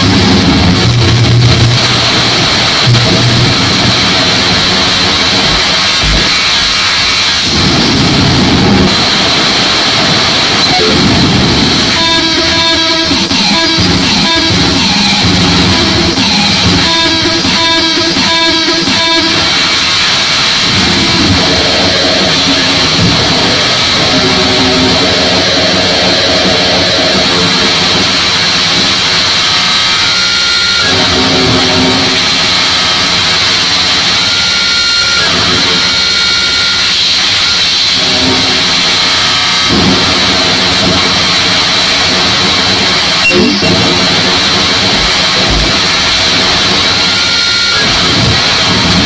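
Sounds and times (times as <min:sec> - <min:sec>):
distorted noise music: 0:00.0 - 0:49.0
pitched droning layers: 0:00.0 - 0:49.0
steady high whine: 0:00.0 - 0:49.0.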